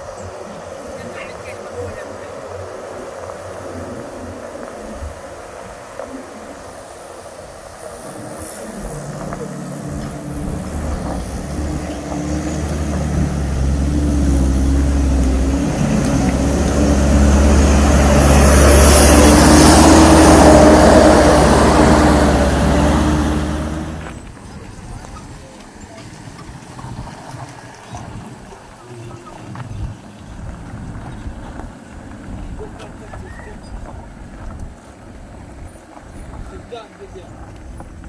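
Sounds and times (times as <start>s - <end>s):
diesel truck engine pulling hard: 0.0s - 38.0s.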